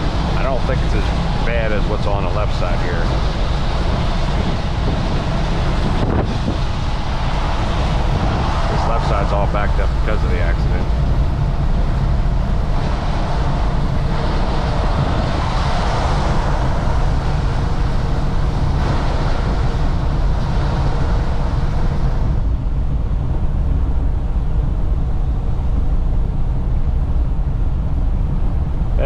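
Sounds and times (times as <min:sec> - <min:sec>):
truck engine drone: 0:00.0 - 0:29.0.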